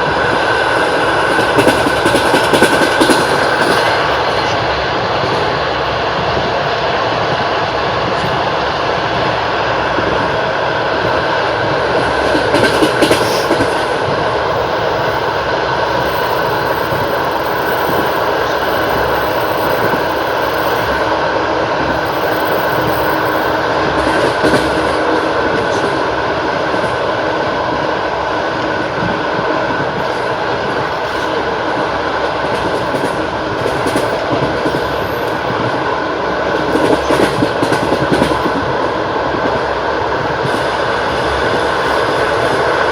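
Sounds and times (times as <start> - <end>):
train rolling rumble: 0.0 - 42.9.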